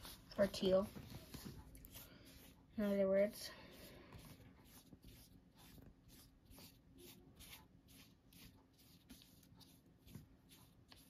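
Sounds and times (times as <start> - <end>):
paintbrush swishing on paper: 0.0 - 11.0.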